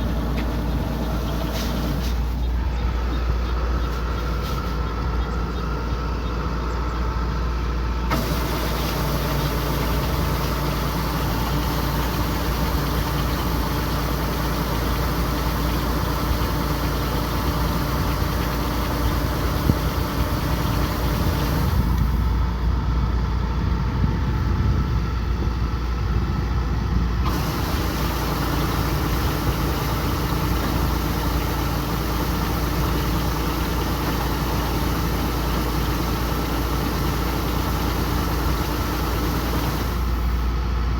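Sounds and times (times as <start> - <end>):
combine harvester engine and threshing: 0.0 - 40.9.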